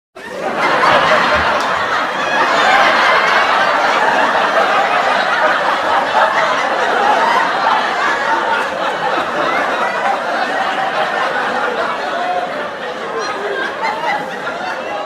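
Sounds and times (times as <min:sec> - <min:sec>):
studio audience laughing: 0:00.2 - 0:15.0.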